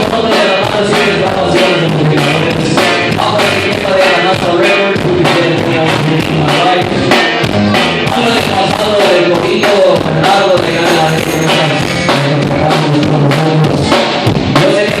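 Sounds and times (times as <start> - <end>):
band music with drum beat: 0.0 - 15.0.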